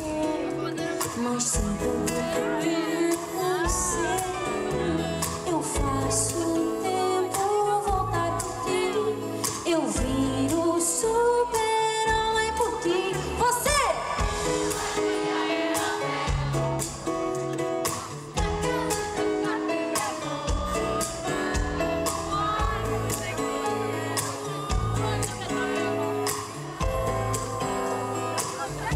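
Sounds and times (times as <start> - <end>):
woman singing: 0.0 - 16.7, 18.3 - 28.9
band playing bass beat: 0.0 - 28.9.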